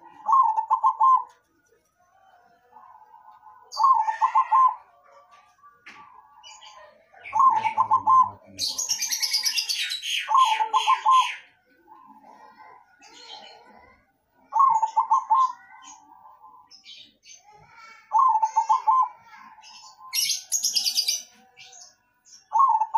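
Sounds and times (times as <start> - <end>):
dove cooing: 0.0 - 1.5, 2.2 - 5.1, 6.1 - 16.7, 17.7 - 21.5, 22.5 - 22.9.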